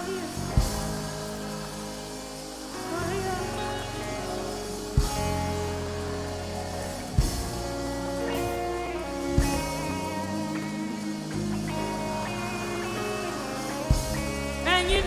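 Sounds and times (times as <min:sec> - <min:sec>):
instrumental worship band music: 0:00.0 - 0:15.0
loud beats: 0:00.1 - 0:15.0.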